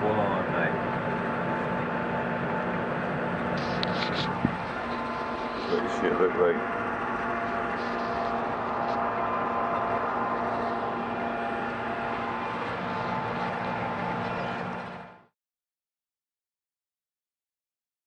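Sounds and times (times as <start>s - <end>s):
tractor engine droning: 0.0s - 15.3s.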